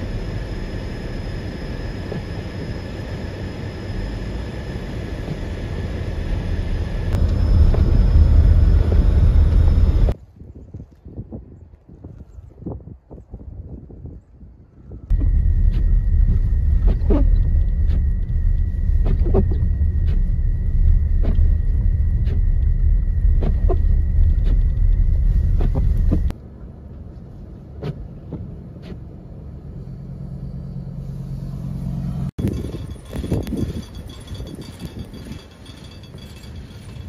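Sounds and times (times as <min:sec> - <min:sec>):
steady low hum: 0:00.0 - 0:10.2, 0:14.9 - 0:37.0
blizzard wind buffeting microphone: 0:00.0 - 0:28.6, 0:31.5 - 0:37.0.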